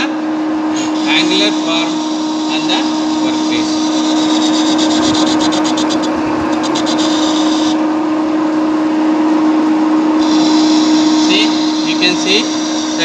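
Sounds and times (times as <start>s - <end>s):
lathe motor humming: 0.0s - 13.0s.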